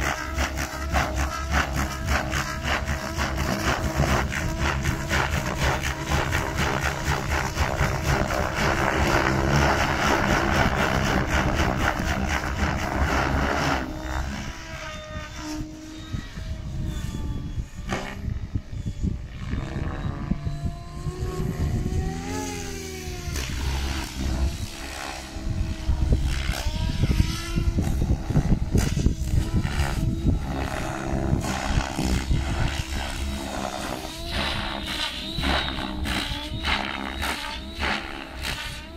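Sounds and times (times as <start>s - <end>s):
electric motor whine: 0.0s - 38.9s
helicopter rotor chop: 0.0s - 38.9s.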